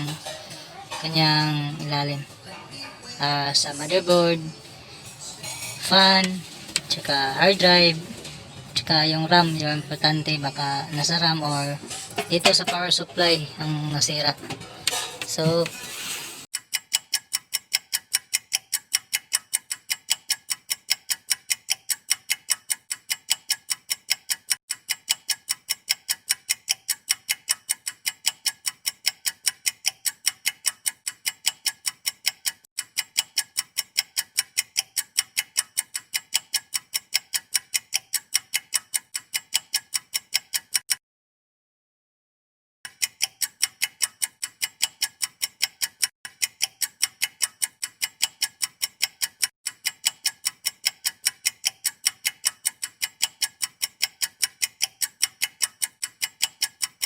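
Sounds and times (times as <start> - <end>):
clock-like ticking: 0.0 - 2.2, 3.2 - 4.6, 5.4 - 15.8, 16.5 - 41.0, 42.9 - 57.0.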